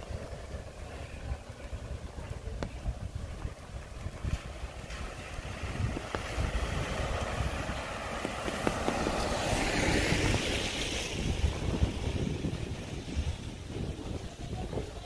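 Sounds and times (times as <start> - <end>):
car tyres hissing on wet road: 0.0 - 15.0.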